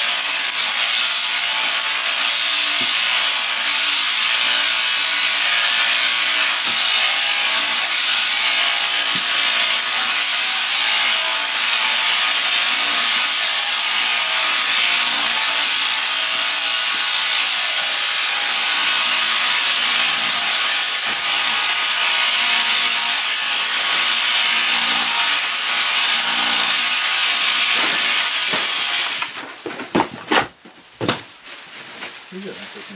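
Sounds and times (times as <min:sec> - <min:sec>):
shearing handpiece running: 0:00.0 - 0:29.5.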